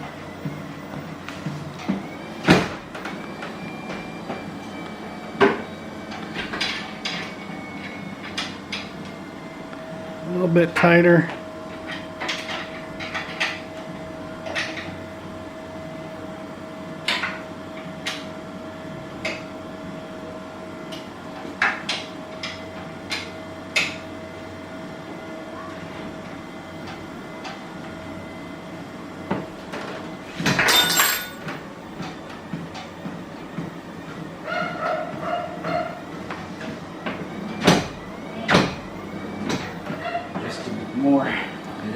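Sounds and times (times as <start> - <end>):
treadmill motor whine: 0.0 - 41.9.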